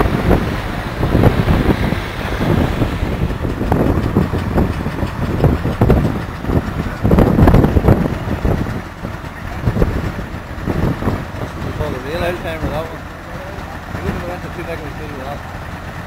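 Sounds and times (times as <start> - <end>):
threshing drum knocking and clattering: 0.0 - 14.6
tractor diesel engine rumbling: 0.0 - 16.0.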